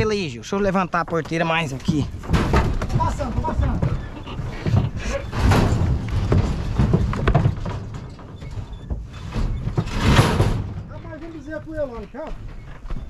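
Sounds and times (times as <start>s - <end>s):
knocks and rattles of truck body: 0.0s - 13.0s.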